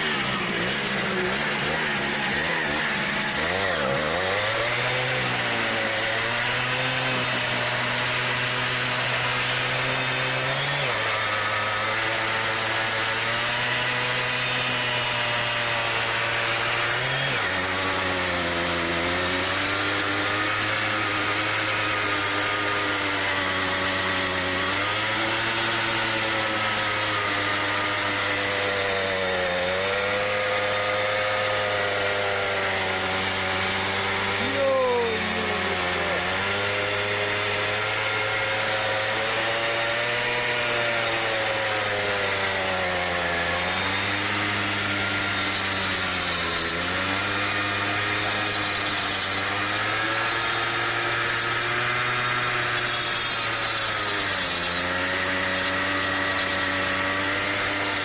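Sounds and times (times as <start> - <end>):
moped engine at high revs: 0.0 - 58.0.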